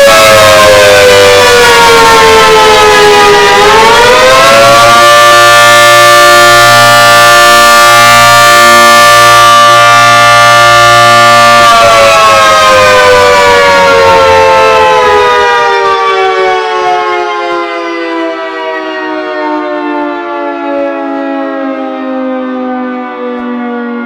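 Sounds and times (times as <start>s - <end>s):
civil defense siren: 0.0s - 24.0s.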